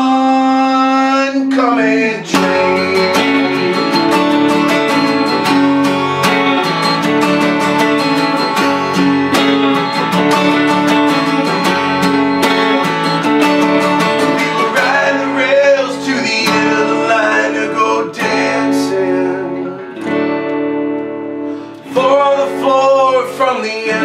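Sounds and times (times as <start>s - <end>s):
acoustic guitar strumming: 0.0s - 24.0s
bending guitar melody: 0.0s - 24.0s
electric guitar playing: 1.1s - 24.0s.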